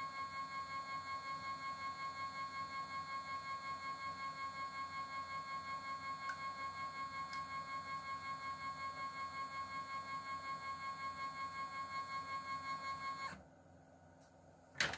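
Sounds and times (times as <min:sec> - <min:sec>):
stepper motor whine: 0:00.0 - 0:13.4.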